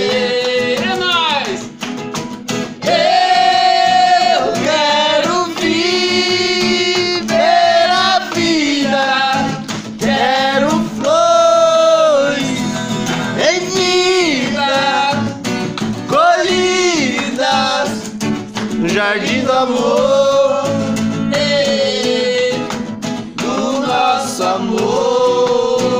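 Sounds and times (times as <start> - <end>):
man singing love song: 0.0 - 1.8, 2.8 - 15.4, 16.1 - 25.9
acoustic guitar strumming: 0.0 - 25.9.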